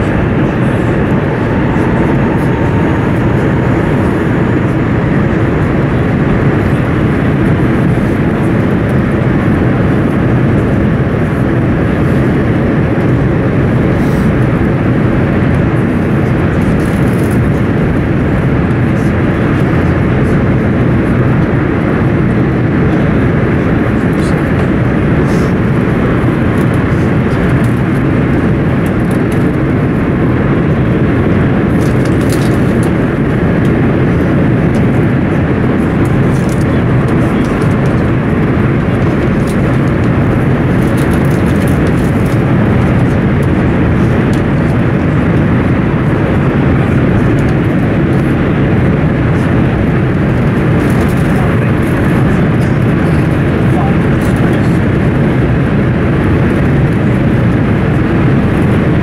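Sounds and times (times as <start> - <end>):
train interior rumble and rush: 0.0 - 59.0.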